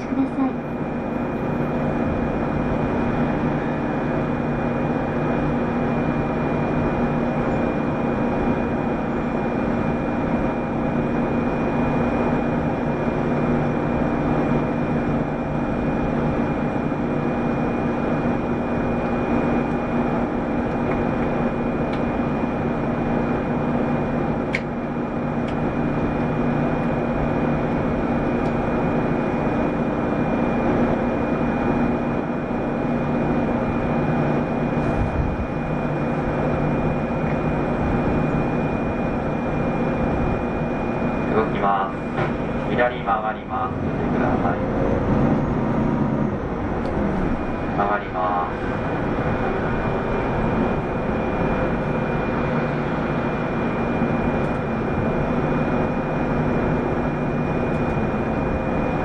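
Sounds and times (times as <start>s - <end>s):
bus diesel engine drone: 0.0s - 59.0s
constant high whine: 0.0s - 59.0s.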